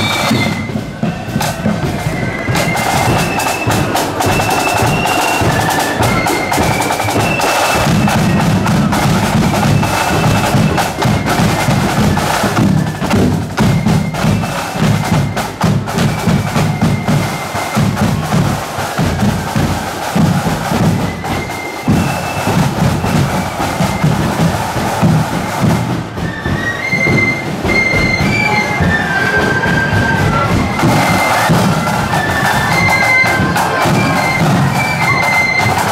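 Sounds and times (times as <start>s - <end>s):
high flute melody: 0.0s - 35.9s
snare drums: 0.0s - 35.9s.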